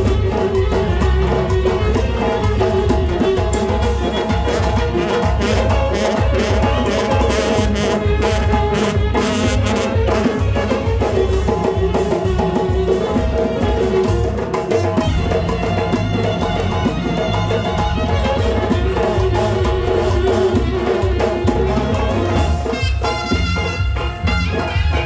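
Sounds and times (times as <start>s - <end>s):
drum kit beating: 0.0s - 25.0s
frame drum beating: 0.0s - 25.0s.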